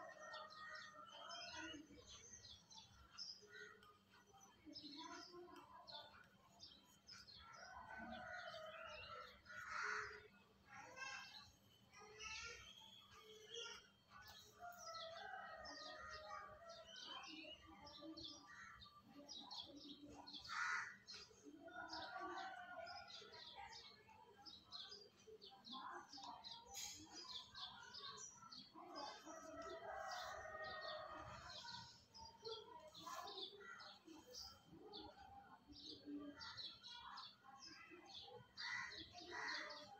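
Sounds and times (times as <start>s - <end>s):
faint birds chirping: 0.0s - 39.9s.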